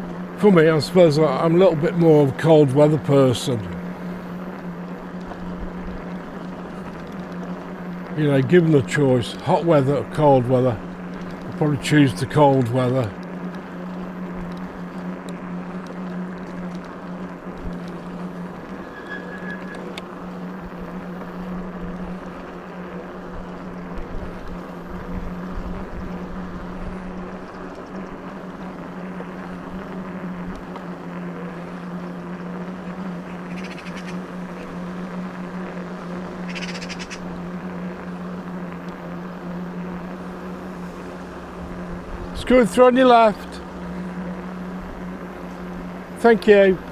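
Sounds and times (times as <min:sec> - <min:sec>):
electric motor hum: 0:00.0 - 0:46.9
rapid ticking: 0:00.0 - 0:46.9
wind and tyre noise: 0:00.0 - 0:46.9.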